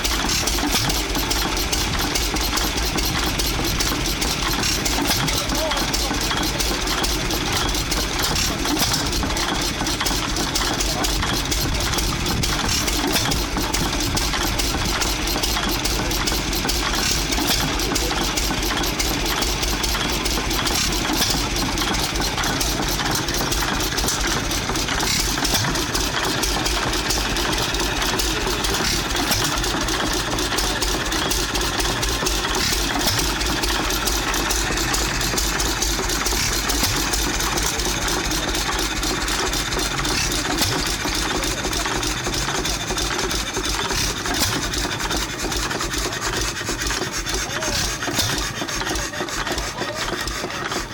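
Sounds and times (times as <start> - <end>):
old engines running: 0.0 - 50.9
stationary gas engine running: 0.0 - 50.9.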